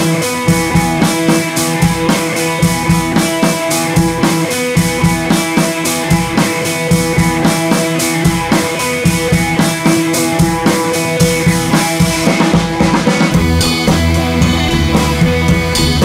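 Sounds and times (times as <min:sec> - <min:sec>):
rock music with drums and guitar: 0:00.0 - 0:16.0.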